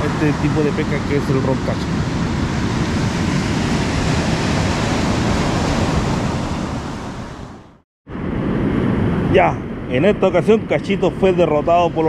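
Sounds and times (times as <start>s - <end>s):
ocean surf: 0.0s - 10.3s
wind buffeting microphone: 0.0s - 12.0s.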